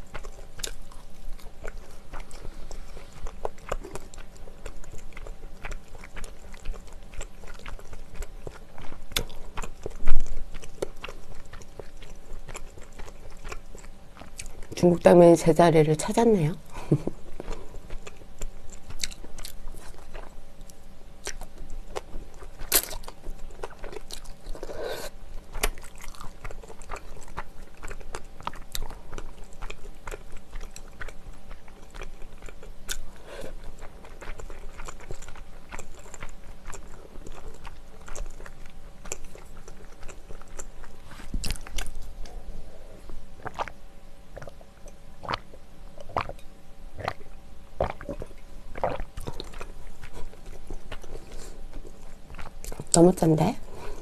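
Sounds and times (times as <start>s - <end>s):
chewing and slurping: 0.0s - 14.8s, 16.9s - 43.8s, 44.4s - 54.0s.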